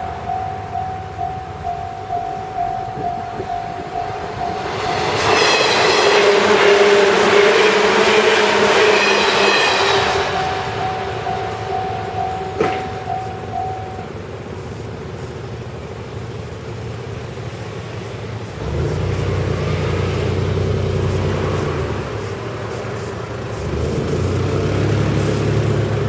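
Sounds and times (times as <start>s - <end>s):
low engine rumble: 0.0s - 24.2s
vehicle engines pulling away: 0.0s - 26.0s.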